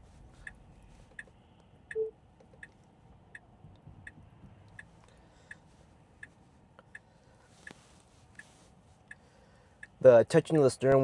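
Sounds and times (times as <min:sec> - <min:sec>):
turn signal ticking: 0:00.0 - 0:10.0.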